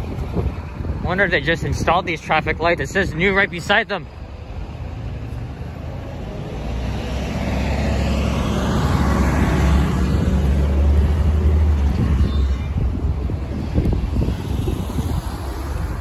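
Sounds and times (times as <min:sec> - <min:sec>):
traffic rumble: 0:00.0 - 0:16.0
vehicles passing: 0:00.0 - 0:16.0.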